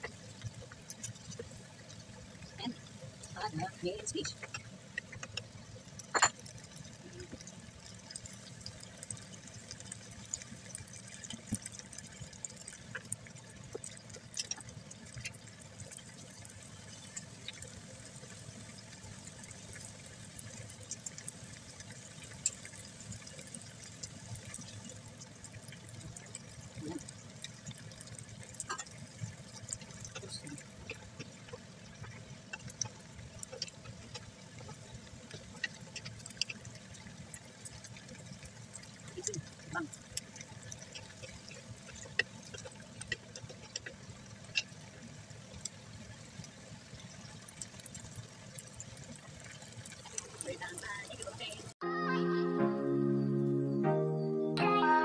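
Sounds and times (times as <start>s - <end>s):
stir-fry sizzling in a wok: 0.0s - 51.8s.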